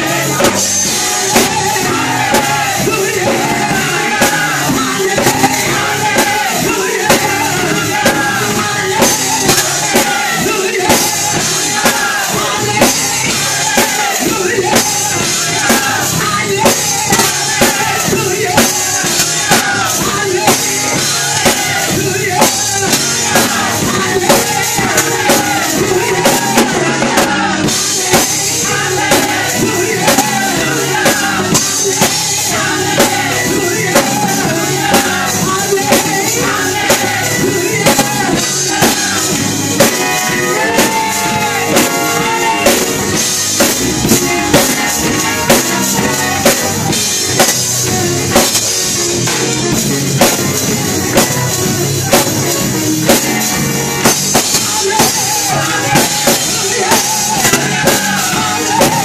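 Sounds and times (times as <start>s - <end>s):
drum kit beat: 0.0s - 59.0s
group of singers: 0.0s - 59.0s.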